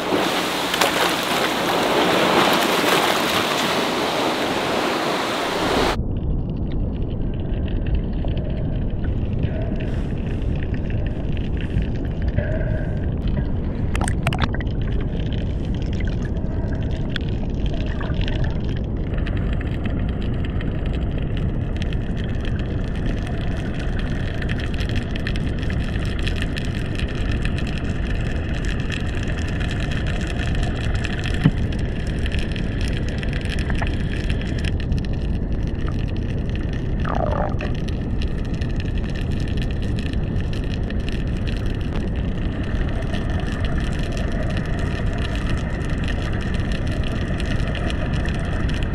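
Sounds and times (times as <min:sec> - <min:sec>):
underwater rushing water: 0:00.0 - 0:48.9.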